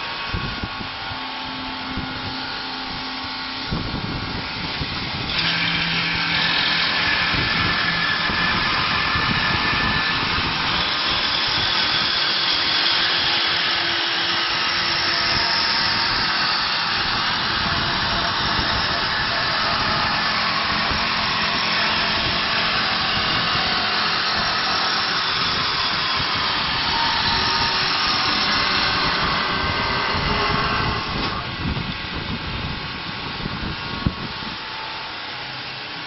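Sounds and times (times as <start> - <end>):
wood lathe cutting whirring hiss: 0.0 - 36.0.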